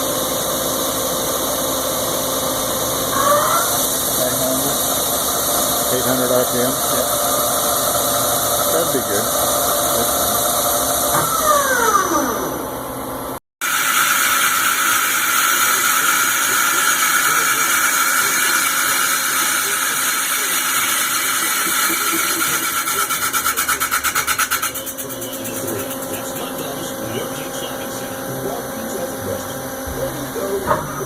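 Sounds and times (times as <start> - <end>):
lathe running with whine: 0.0 - 31.0.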